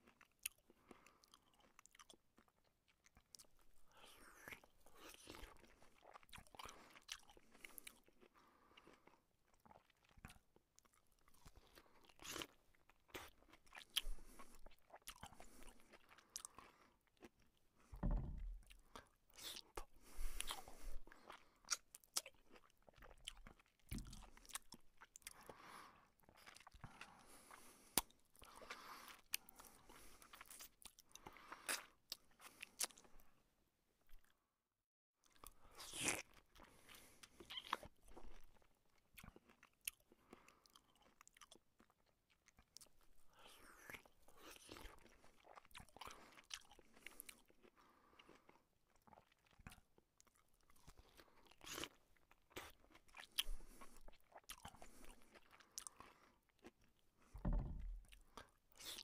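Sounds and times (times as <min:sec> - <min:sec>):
man chewing food: 0:00.0 - 0:33.4, 0:35.2 - 0:59.0.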